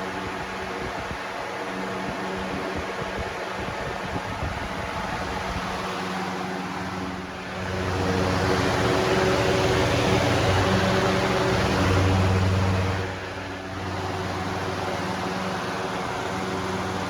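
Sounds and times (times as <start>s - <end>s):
fan air rushing: 0.0s - 17.0s
low motor hum: 0.0s - 17.0s.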